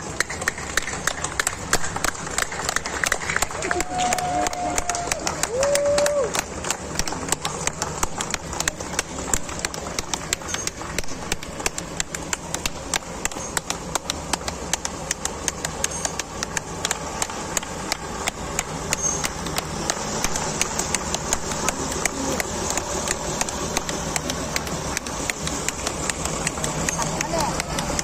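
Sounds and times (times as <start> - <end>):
sharp uneven ticks and taps: 0.0 - 28.0
truck engines running: 0.0 - 28.0.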